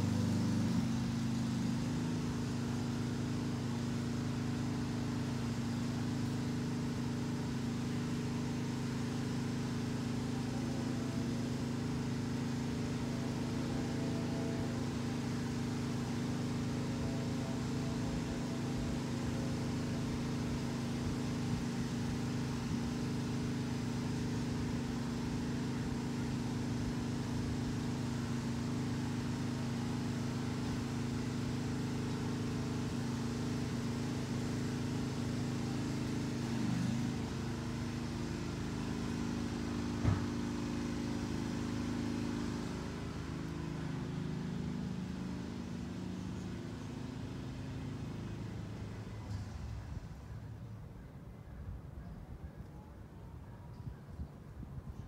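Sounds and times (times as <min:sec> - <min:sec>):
lawn mower engine running: 0:00.0 - 0:51.3.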